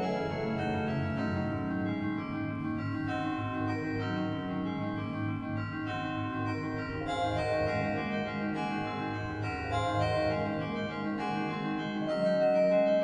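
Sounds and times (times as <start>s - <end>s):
held keyboard chords: 0.0s - 13.0s.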